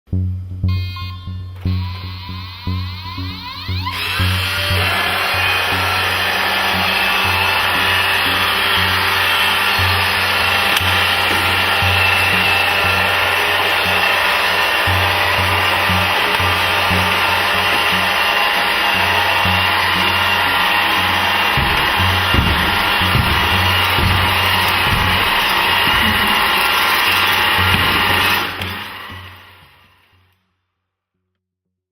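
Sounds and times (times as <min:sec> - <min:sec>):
robot vacuum cleaner whirring: 0:03.8 - 0:30.1.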